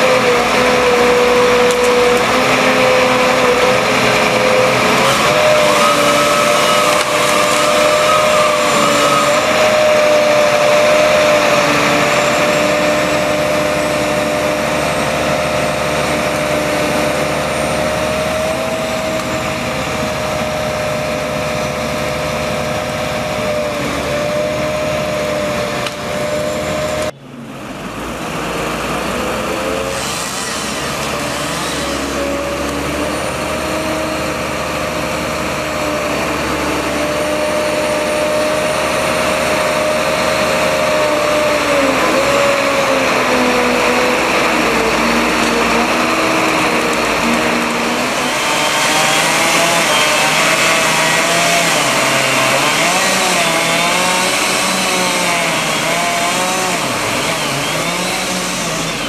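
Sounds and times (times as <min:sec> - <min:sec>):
machine drone with whine: 0:00.0 - 0:59.0.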